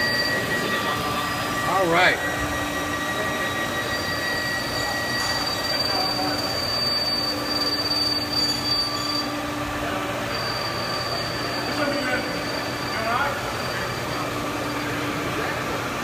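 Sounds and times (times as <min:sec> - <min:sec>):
lathe cutting squeal: 0:00.0 - 0:16.0.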